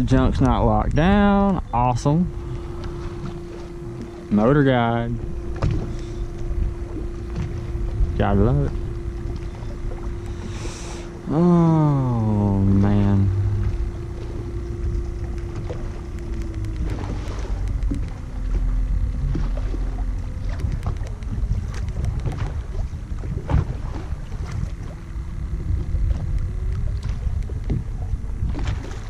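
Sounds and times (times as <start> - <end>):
electric trolling motor hum: 0.0 - 29.0
water slapping against hull: 0.0 - 29.0
wind buffeting microphone: 0.0 - 29.0.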